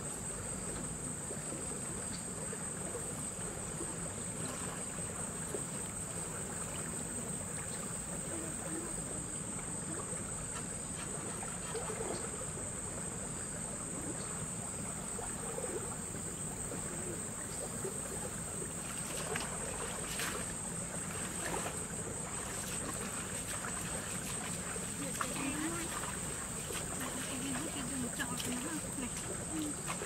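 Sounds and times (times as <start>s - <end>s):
water splashing from wading: 2.8s - 12.6s, 14.0s - 30.0s.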